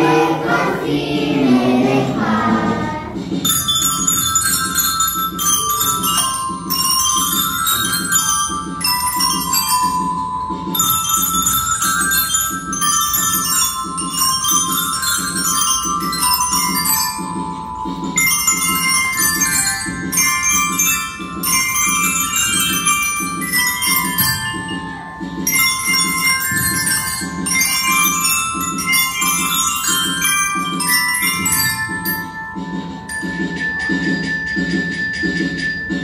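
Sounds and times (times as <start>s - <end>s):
toy metallophones ringing notes: 3.2s - 36.0s.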